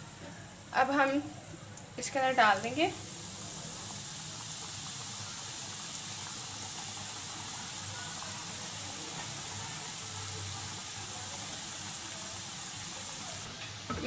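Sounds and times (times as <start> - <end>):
chicken deep-frying in oil: 2.0 - 14.0.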